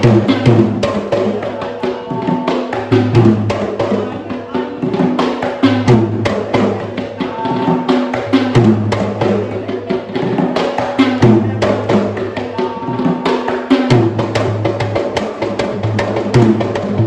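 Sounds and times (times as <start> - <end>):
rapid sharp drum strikes: 0.0 - 17.0.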